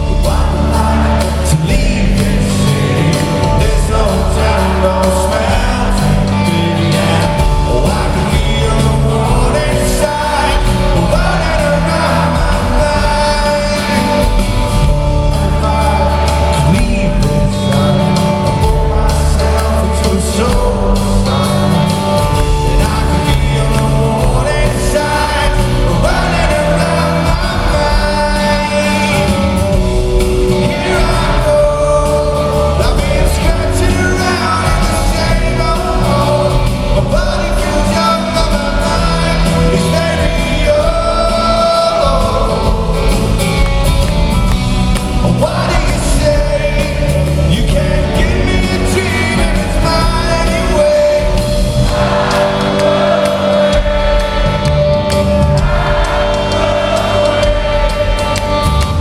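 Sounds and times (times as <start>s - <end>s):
man singing: 0.0s - 44.1s, 44.9s - 58.6s
live rock band: 0.0s - 59.0s.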